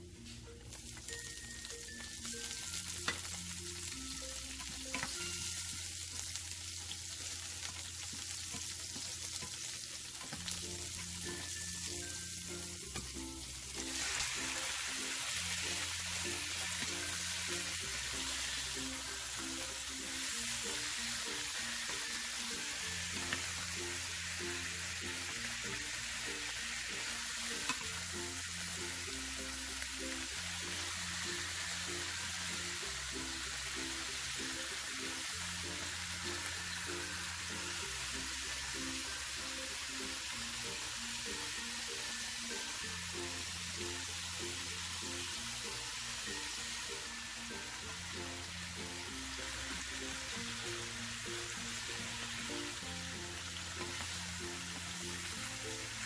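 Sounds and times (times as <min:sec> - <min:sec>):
food sizzling in frying pan: 0:00.0 - 0:56.0.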